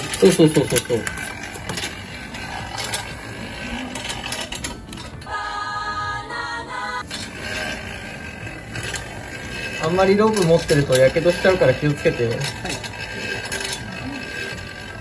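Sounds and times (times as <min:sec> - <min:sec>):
escape device rope mechanical rattle: 0:00.0 - 0:05.3, 0:07.0 - 0:15.0.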